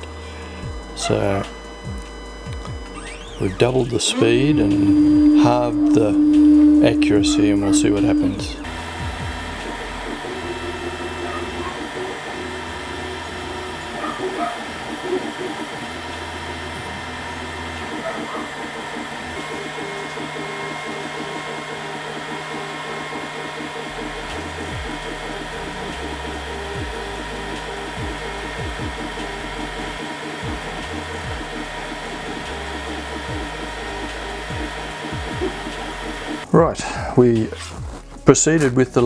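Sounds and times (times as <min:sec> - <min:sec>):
stepper motors whirring: 0:00.0 - 0:36.5
cooling fan hum: 0:00.0 - 0:37.1.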